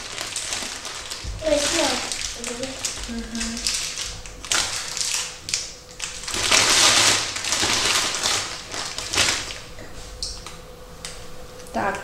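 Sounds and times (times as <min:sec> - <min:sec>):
candy wrappers crinkling: 0:00.0 - 0:10.6.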